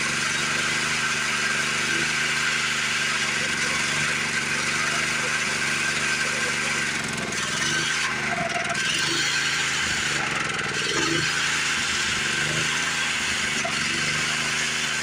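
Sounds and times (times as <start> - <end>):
saw blade cutting log: 0.0 - 15.0
small petrol engine running: 0.0 - 15.0.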